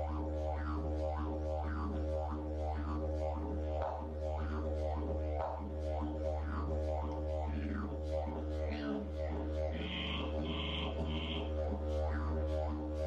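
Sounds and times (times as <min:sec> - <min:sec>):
didgeridoo drone: 0:00.0 - 0:13.0.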